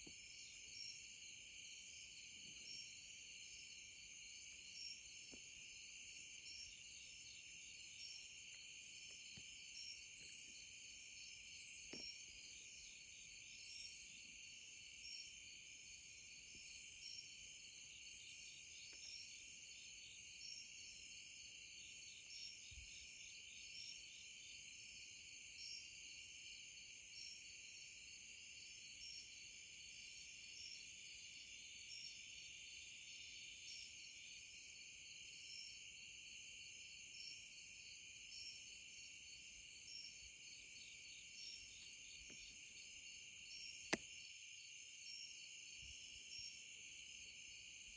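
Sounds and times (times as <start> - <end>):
crickets and night insects trilling: 0.0 - 47.9.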